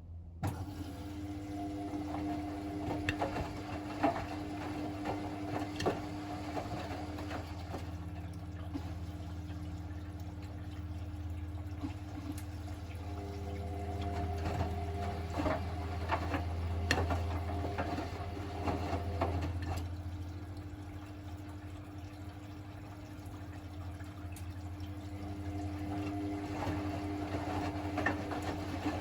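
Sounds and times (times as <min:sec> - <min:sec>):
washing machine motor hum: 0:00.0 - 0:29.0
water sloshing in drum: 0:01.3 - 0:29.0.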